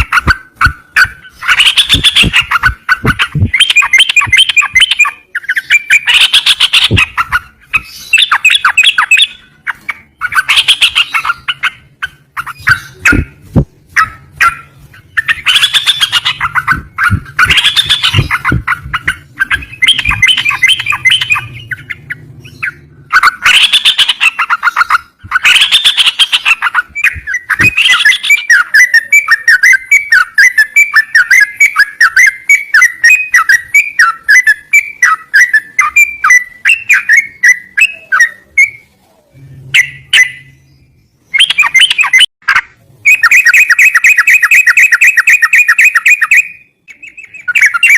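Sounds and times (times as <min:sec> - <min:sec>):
bulbul singing: 0:00.0 - 0:42.3, 0:43.0 - 0:47.9.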